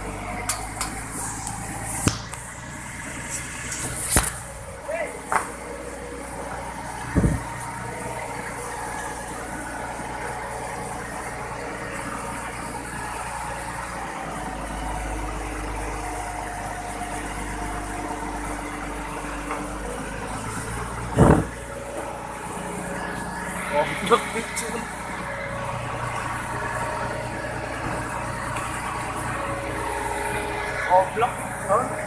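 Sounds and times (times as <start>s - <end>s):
diesel truck engine rumbling: 0.0s - 32.0s.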